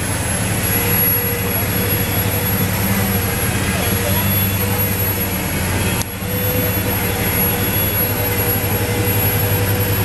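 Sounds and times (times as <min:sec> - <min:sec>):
tractor diesel engine running hard: 0:00.0 - 0:10.0.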